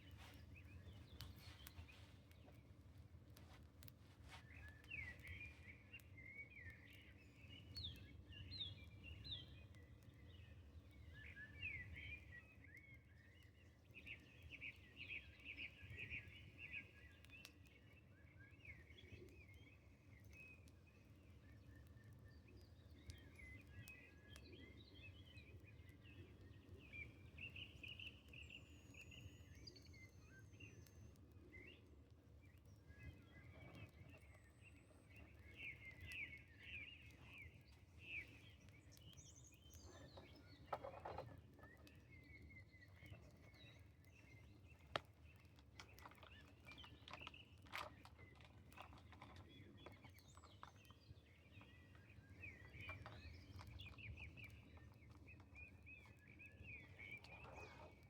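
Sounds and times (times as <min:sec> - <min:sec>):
faint birds chirping: 0:00.0 - 0:58.0.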